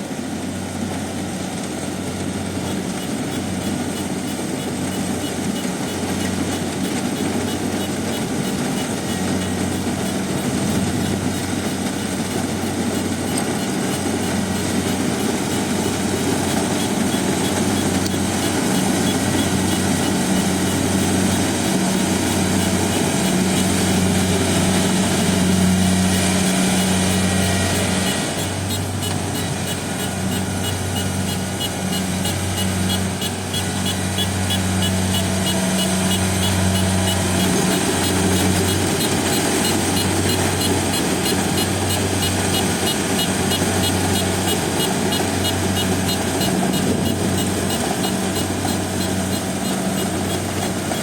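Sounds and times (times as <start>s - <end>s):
combine harvester engine hum: 0.0s - 51.0s.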